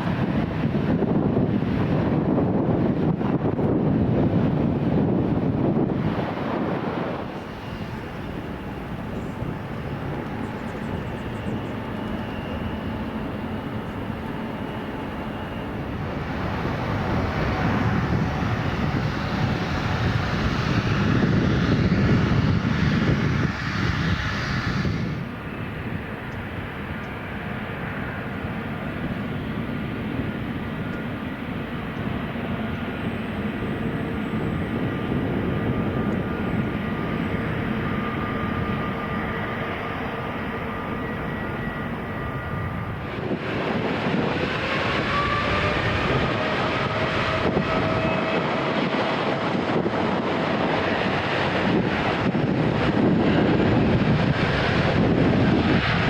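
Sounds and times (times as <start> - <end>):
jet engines at takeoff power: 0.0 - 56.0
quieter jet with faint whine: 0.0 - 56.0.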